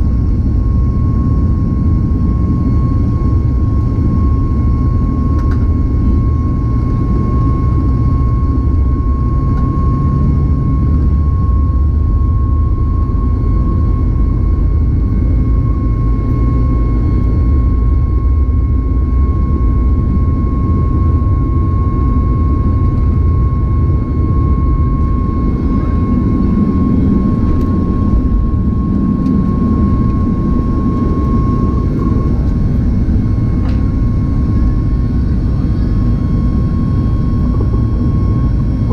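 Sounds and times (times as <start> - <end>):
high engine whine: 0.0 - 38.9
jet engine roar: 0.0 - 38.9.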